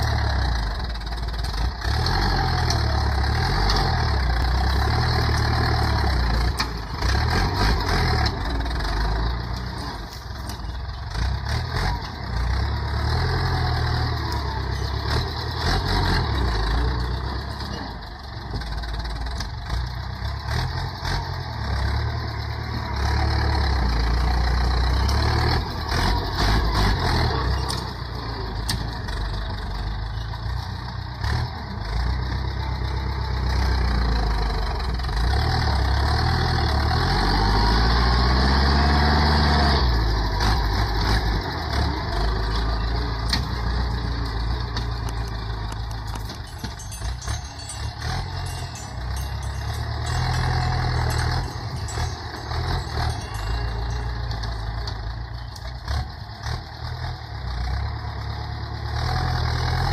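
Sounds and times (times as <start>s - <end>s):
dozer blade pushing soil: 0.0s - 18.8s, 19.4s - 30.5s, 31.2s - 57.1s
tractor diesel engine under load: 0.0s - 59.9s.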